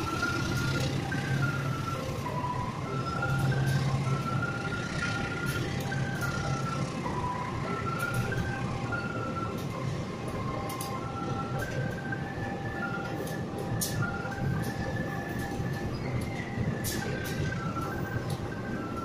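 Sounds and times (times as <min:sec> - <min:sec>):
train coaches rumbling: 0:00.0 - 0:19.0.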